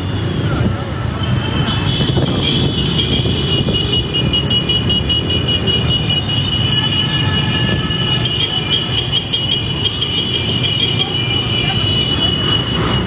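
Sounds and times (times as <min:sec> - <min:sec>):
vehicle road noise rumble: 0:00.0 - 0:13.0.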